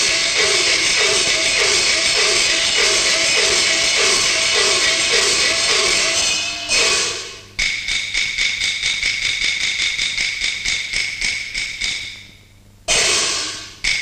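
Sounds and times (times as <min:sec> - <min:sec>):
high-pitched percussion beating: 0:00.0 - 0:12.3, 0:12.9 - 0:14.0.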